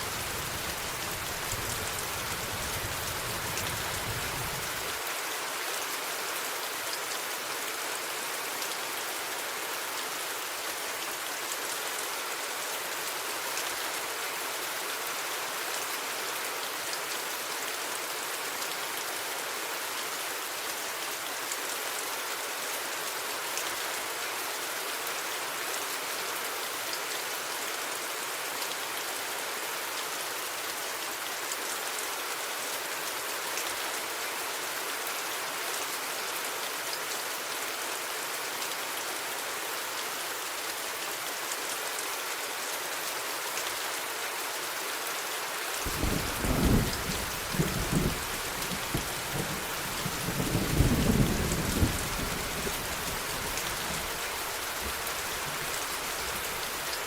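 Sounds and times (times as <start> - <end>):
patter of raindrops: 0.0 - 57.0
steady rain hiss: 0.0 - 57.0.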